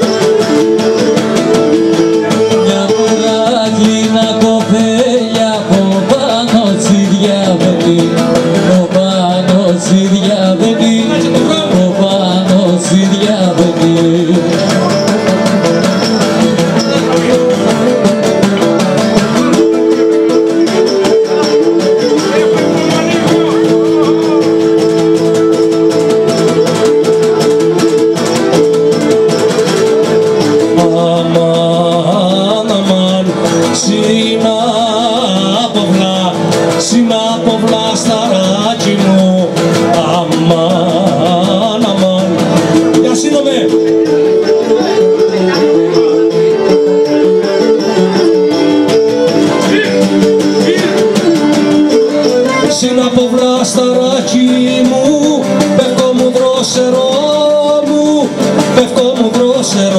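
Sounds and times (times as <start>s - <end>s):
bowed lyra melody: 0.0s - 59.9s
plucked lute accompaniment: 0.0s - 59.9s.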